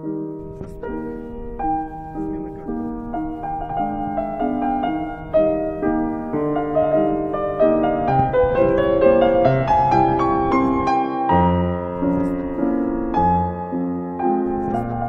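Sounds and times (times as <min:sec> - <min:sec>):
piano-like keyboard music: 0:00.0 - 0:15.0.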